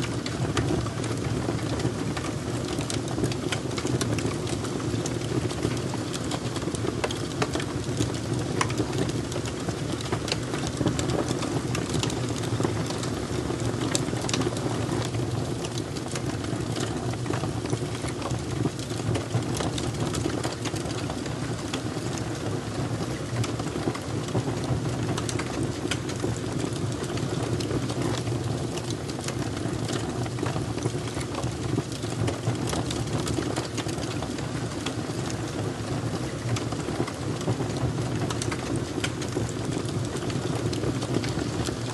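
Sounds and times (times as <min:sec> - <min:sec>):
fire crackling and popping: 0:00.0 - 0:41.9.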